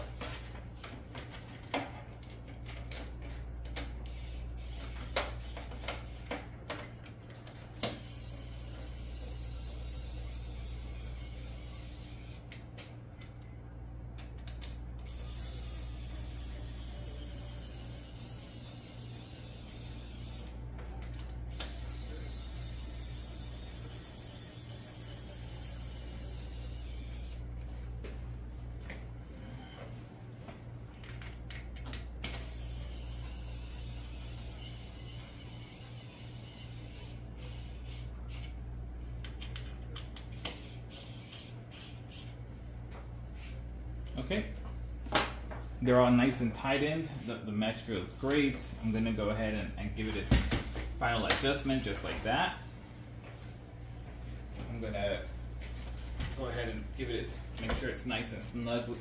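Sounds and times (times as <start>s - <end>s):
low hum and hiss: 0.0s - 59.0s.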